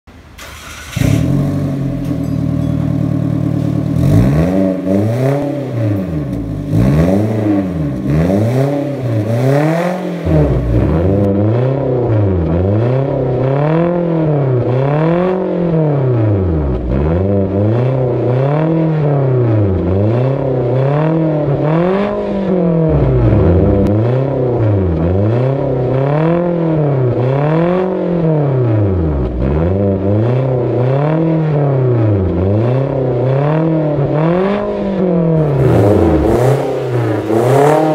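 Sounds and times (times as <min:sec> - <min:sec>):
car engine idling and revving: 0:00.1 - 0:37.9.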